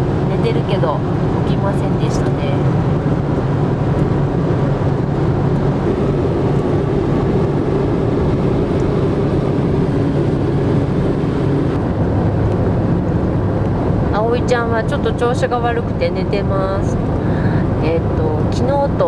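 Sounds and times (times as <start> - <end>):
car cabin road noise: 0.0 - 19.0
low engine hum: 0.0 - 19.0.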